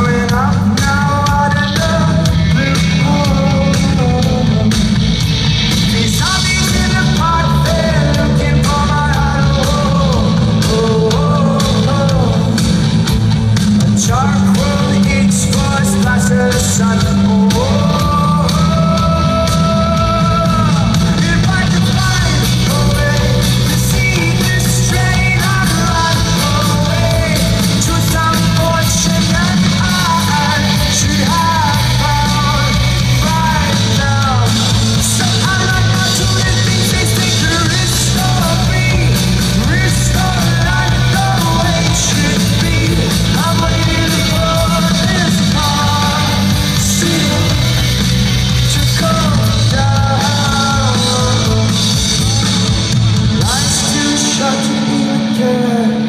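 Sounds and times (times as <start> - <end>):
live rock band playing: 0.0 - 56.0
man singing: 0.0 - 56.0.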